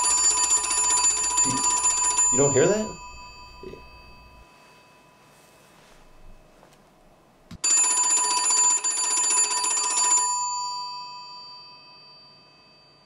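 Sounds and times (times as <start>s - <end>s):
telephone bell ringing: 0.0s - 5.6s, 7.6s - 13.0s.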